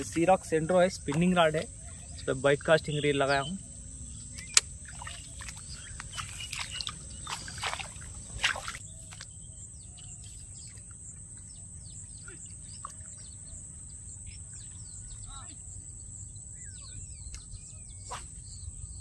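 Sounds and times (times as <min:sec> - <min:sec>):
high insect drone: 0:00.0 - 0:19.0
small birds chirping: 0:00.0 - 0:19.0.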